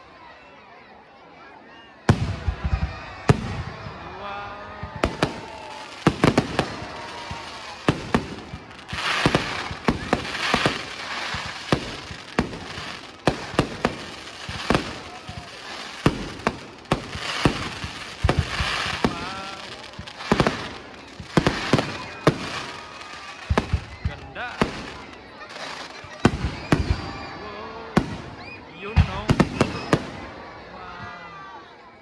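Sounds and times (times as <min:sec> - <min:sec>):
fireworks bangs: 0:02.1 - 0:30.8
fireworks crackling: 0:02.1 - 0:30.8.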